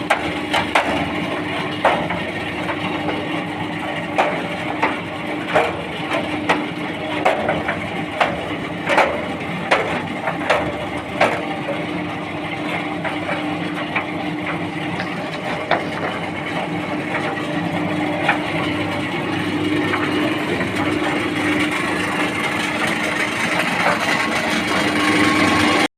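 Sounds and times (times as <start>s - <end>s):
concrete mixer motor humming: 0.0s - 25.9s.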